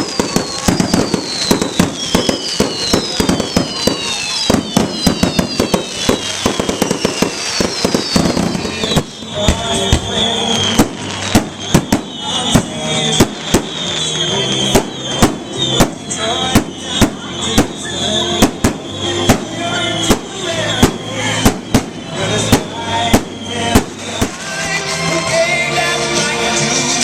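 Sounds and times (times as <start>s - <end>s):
falling firework whistles: 0.0s - 25.6s
steady high whistles: 0.0s - 25.6s
fireworks bangs: 0.0s - 27.0s.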